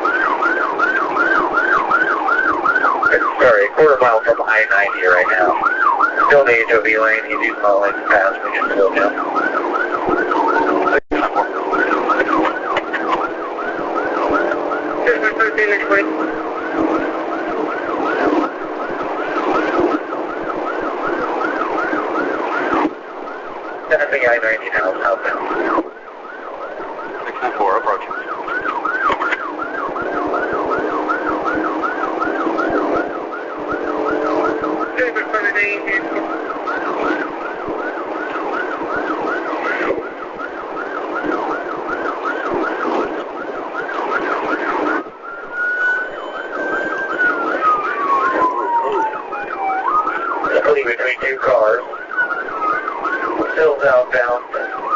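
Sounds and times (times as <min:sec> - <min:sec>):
police siren yelping: 0:00.0 - 0:54.9.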